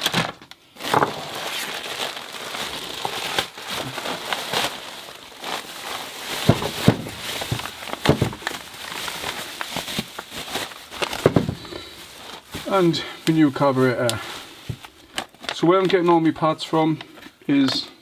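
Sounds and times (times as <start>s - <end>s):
packaging crinkling and rustling: 0.0s - 17.9s.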